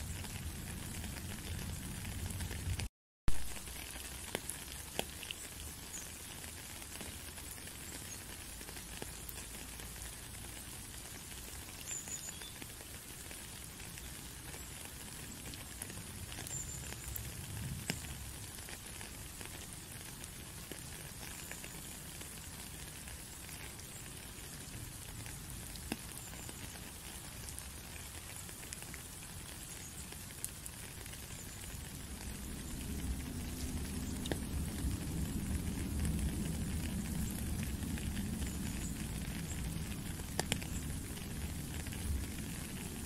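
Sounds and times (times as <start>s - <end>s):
rain falling on puddle: 0.0s - 43.0s.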